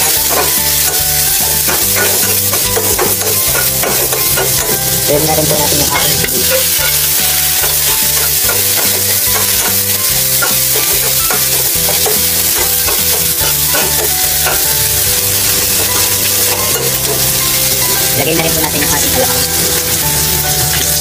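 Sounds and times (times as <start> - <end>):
food sizzling in a wok: 0.0 - 21.0
spatula scraping a wok: 0.0 - 21.0.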